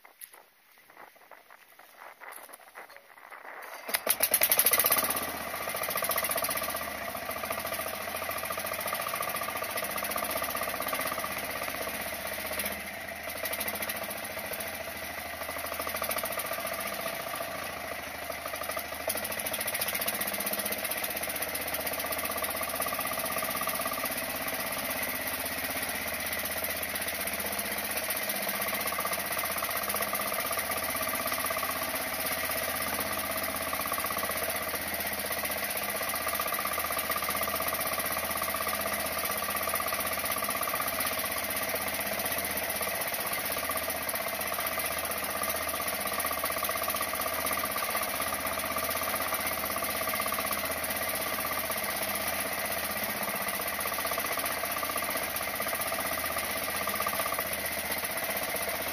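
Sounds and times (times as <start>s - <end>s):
boat engine running: 0.9s - 58.9s.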